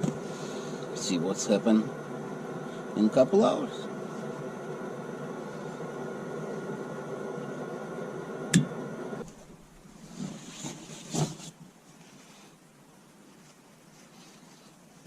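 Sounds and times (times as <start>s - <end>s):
air heater blower hum: 0.0s - 15.0s.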